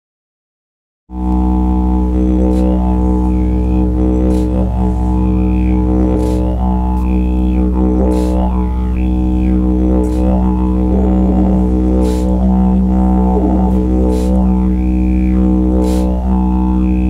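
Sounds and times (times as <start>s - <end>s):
didgeridoo drone: 1.1s - 17.0s.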